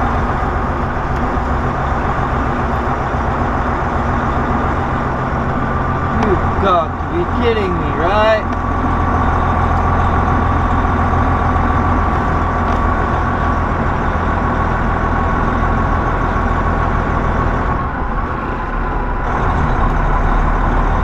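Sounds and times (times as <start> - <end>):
diesel engine rumble: 0.0 - 21.0.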